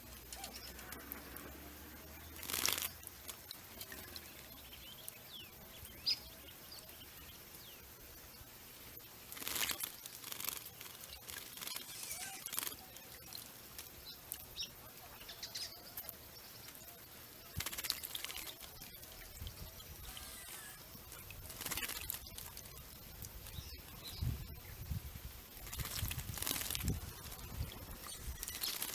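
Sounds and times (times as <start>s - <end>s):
birds splashing in water: 0.0s - 7.6s, 8.6s - 24.6s, 25.4s - 28.9s
small birds chirping: 0.0s - 28.9s.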